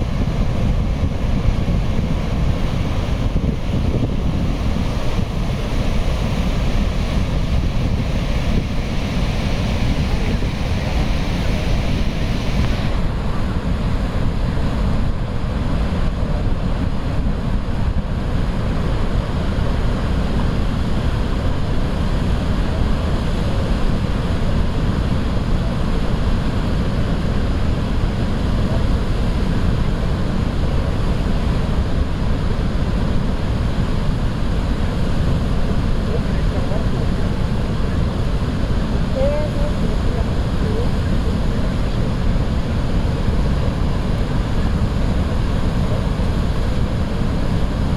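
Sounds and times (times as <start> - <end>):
river churning: 0.0 - 47.9
waterfall roaring: 0.0 - 47.9
wind buffeting microphone: 0.0 - 47.9.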